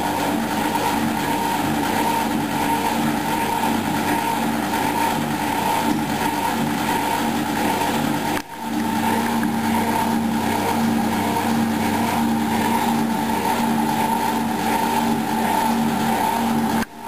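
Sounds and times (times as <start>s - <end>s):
washing machine humming and whining: 0.0s - 17.0s.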